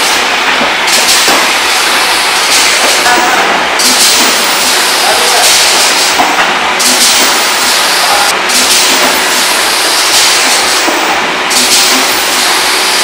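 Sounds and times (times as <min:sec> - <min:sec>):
filling line mechanical din: 0:00.0 - 0:13.0.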